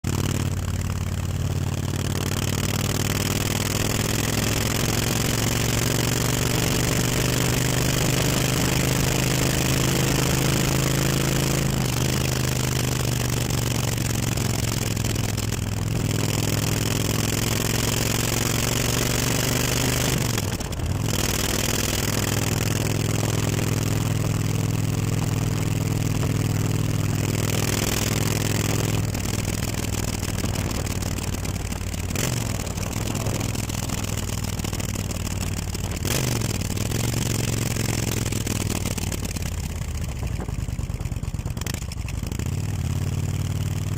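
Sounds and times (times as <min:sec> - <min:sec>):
motorcycle engine running at low revs: 0:00.0 - 0:43.9.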